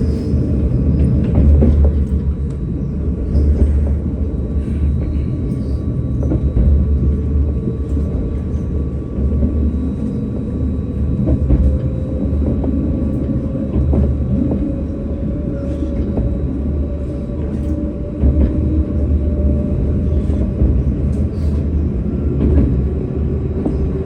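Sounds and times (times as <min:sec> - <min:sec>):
tram rumbling on rails: 0:00.0 - 0:24.0.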